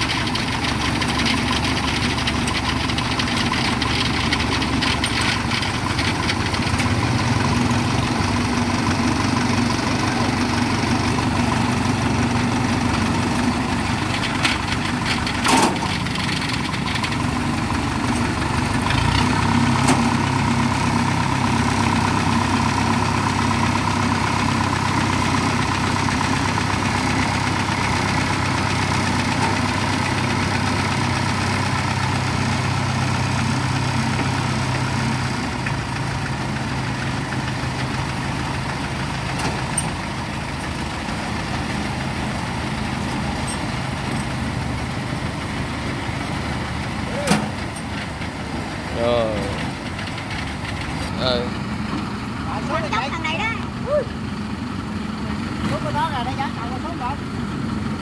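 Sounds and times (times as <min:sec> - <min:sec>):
tracked vehicle engine running: 0:00.0 - 0:58.0.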